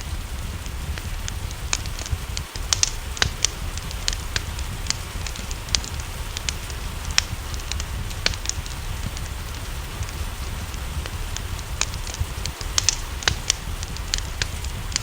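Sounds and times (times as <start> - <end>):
low rumble: 0.0 - 15.0
rain hissing: 0.0 - 15.0
wood fire crackling and popping: 0.0 - 15.0.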